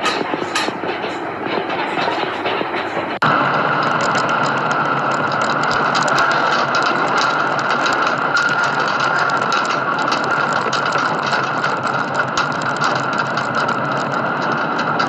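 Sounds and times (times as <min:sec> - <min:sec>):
building rattling and clicking: 0:00.0 - 0:15.0
steady rushing noise: 0:00.0 - 0:15.0.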